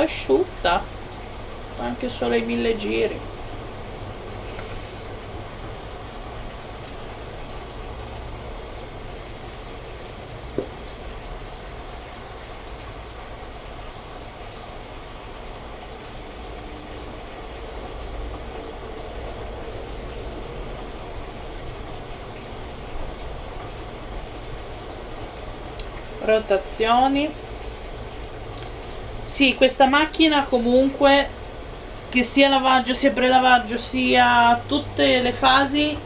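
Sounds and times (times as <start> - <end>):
washing machine filling with water: 0.0 - 36.0.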